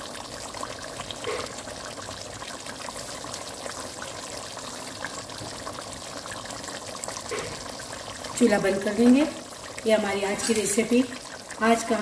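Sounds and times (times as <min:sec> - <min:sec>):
curry simmering in a pot: 0:00.0 - 0:12.0.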